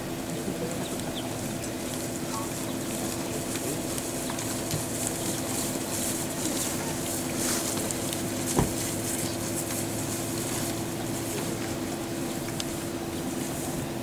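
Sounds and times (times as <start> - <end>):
low steady hum: 0.0 - 14.0
footsteps swishing through grass: 1.9 - 14.0.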